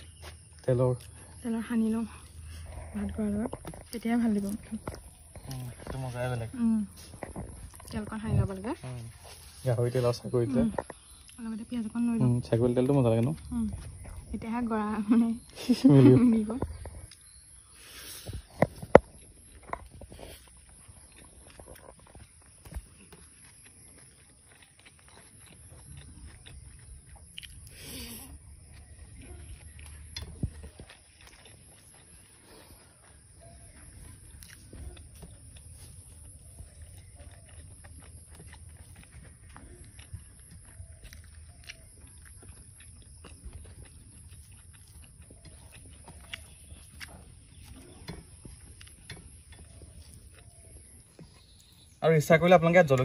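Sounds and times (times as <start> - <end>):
chewing and mouth sounds: 0.0 - 52.0.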